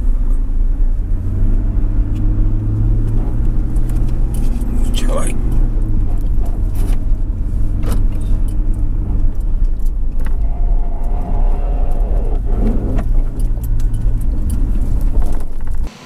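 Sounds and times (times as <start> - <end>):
engine and tyre rumble: 0.0 - 16.0
knocks and rattles over bumps: 2.0 - 15.9.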